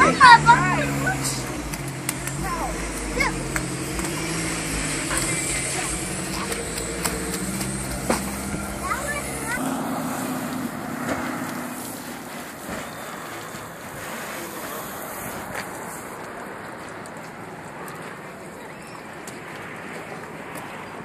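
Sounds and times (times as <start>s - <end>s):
street traffic: 0.0s - 21.0s.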